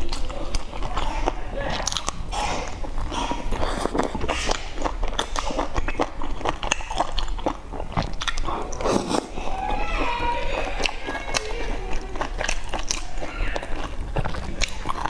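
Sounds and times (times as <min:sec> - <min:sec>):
person chewing with clicking mouth: 0:00.0 - 0:15.0.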